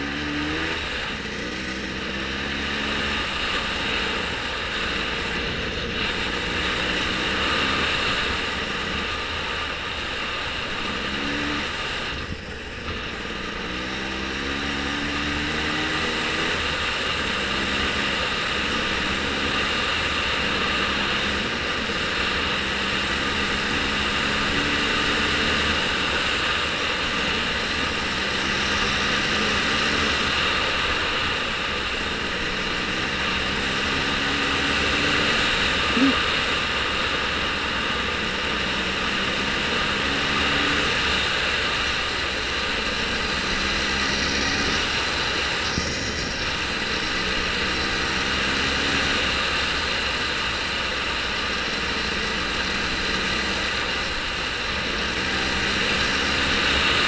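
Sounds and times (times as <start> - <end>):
steady rushing noise: 0.0 - 57.0
vehicle engine running: 0.0 - 57.0.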